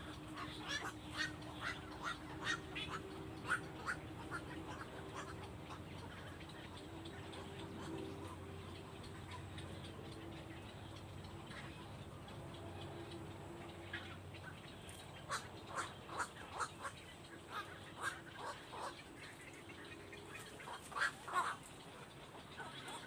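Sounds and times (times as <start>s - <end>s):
bird calling: 0.0s - 23.0s.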